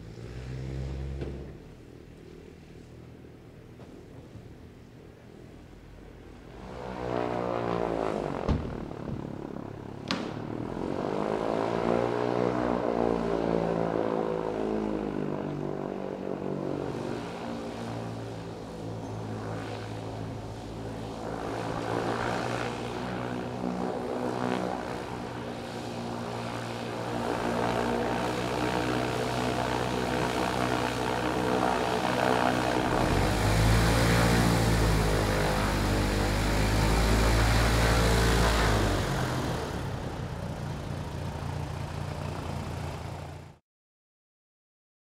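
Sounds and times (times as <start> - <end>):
propeller aircraft engine: 0.0 - 43.6.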